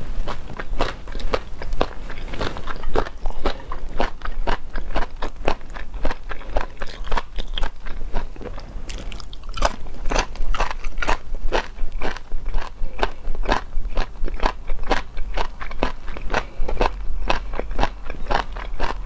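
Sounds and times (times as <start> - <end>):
person chewing crunchy fried food: 0.2 - 19.0.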